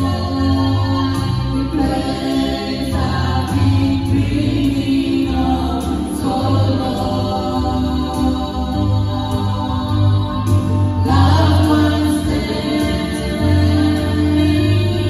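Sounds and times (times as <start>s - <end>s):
vocal group singing gospel: 0.0s - 15.0s.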